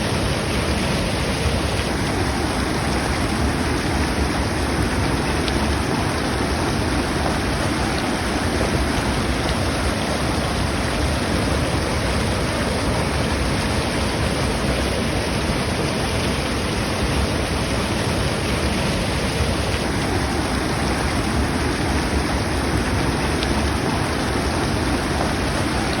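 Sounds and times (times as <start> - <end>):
waterfall into a pool: 0.0 - 26.0.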